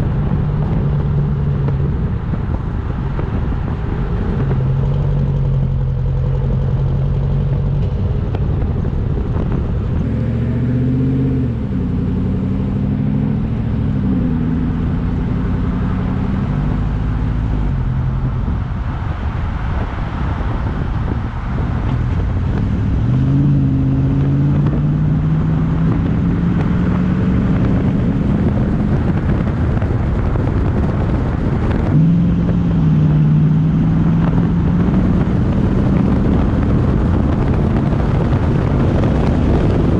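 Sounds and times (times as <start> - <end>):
car engine and exhaust driving: 0.0 - 39.9.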